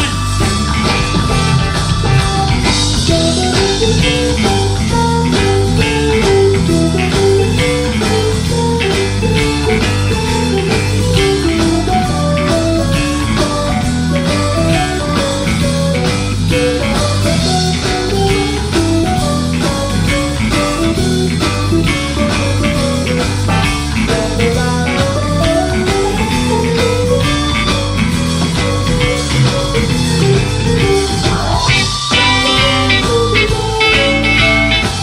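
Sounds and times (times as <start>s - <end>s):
blues band playing: 0.0s - 35.0s
electric guitar lead: 0.0s - 35.0s.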